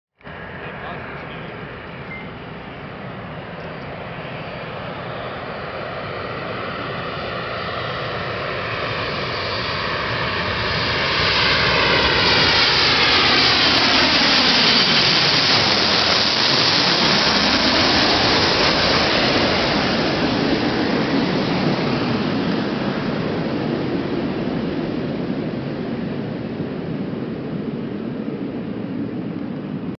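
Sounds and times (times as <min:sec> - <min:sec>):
jet airliner engine: 0:00.2 - 0:29.9.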